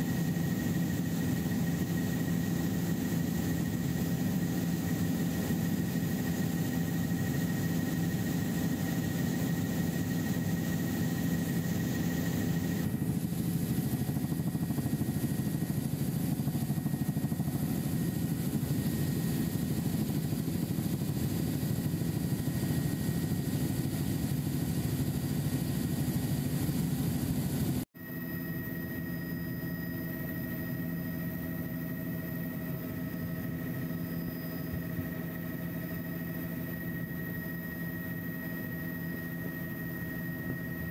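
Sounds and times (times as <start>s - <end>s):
helicopter engine and rotors drone: 0.0s - 40.9s.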